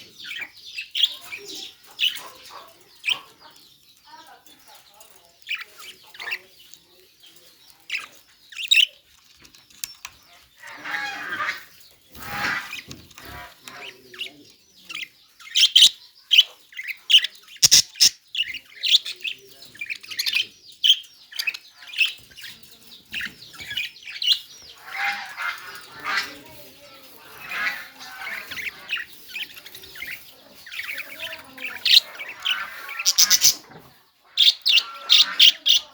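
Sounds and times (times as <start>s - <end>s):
budgerigars chirping and squawking: 0.0s - 35.9s.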